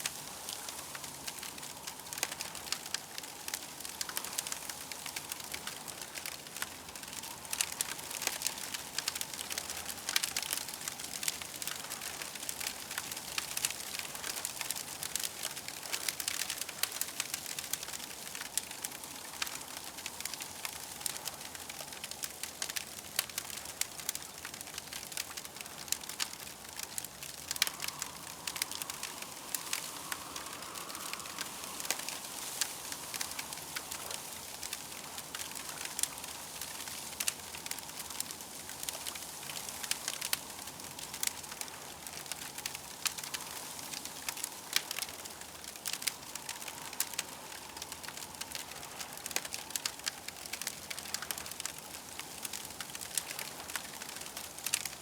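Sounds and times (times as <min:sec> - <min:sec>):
faint steady tone: 0:00.0 - 0:54.6
campfire crackling: 0:00.0 - 0:55.0.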